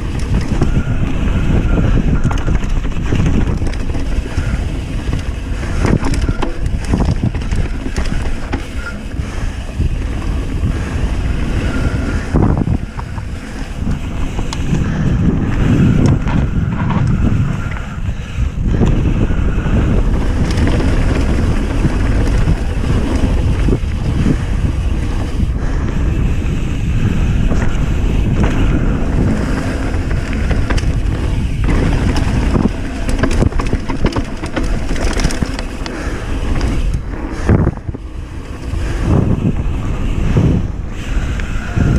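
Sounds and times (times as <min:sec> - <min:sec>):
bike knocks and rattles: 0:00.0 - 0:40.7
bike tyres rumbling on dirt: 0:00.0 - 0:41.9
wind on microphone: 0:00.0 - 0:41.9.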